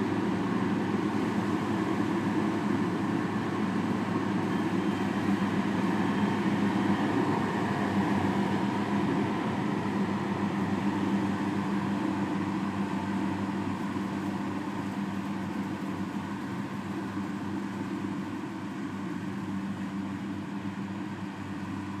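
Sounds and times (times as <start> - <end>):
farm machine engine running: 0.1 - 22.0.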